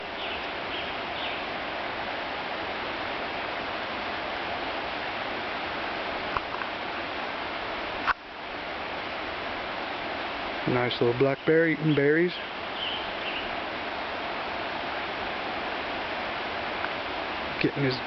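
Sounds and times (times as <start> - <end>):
creek rushing: 0.0 - 18.0.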